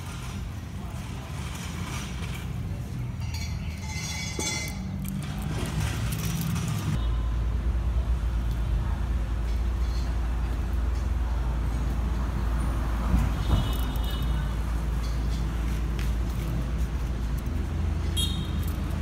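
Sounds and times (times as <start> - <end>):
road traffic engine rumble: 0.0 - 19.0.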